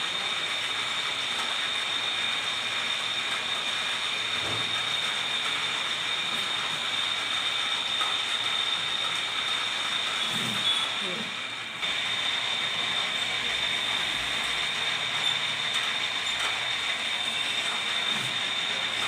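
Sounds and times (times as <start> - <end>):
metal lathe whirring: 0.0 - 19.0.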